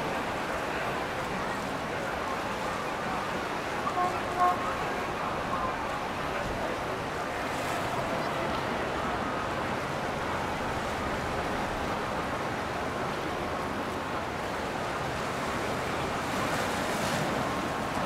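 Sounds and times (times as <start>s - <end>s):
water rushing: 0.0s - 18.0s
wind: 0.0s - 18.0s.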